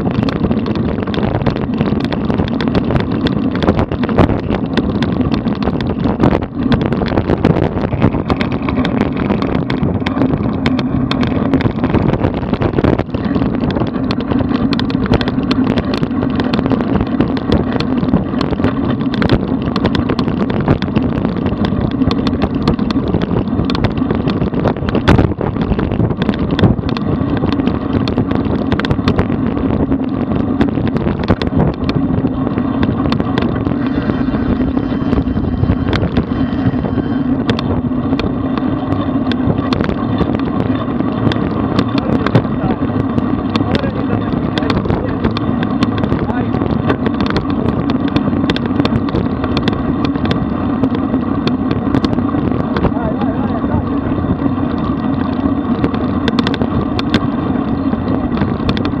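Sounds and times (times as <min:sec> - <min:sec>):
small knocks from road vibration: 0:00.0 - 0:59.0
tyres rumbling on road: 0:00.0 - 0:59.0
wind rushing over microphone: 0:00.0 - 0:59.0.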